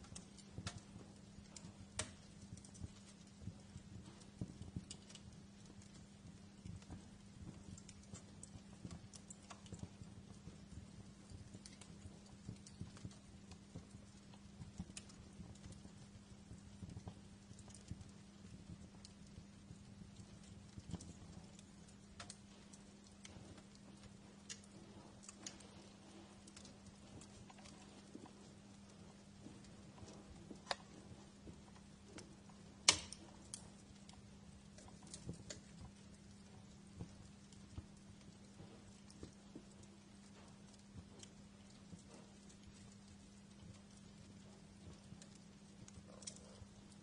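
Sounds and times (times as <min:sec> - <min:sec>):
faint steady hum: 0:00.0 - 0:47.0
soft low fire rumble: 0:00.0 - 0:47.0
wood fire crackling and popping: 0:00.0 - 0:47.0.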